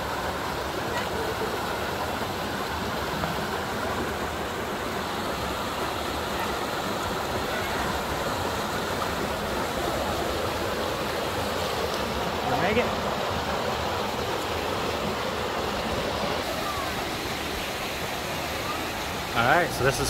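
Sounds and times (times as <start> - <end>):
water rushing over rock: 0.0 - 20.0.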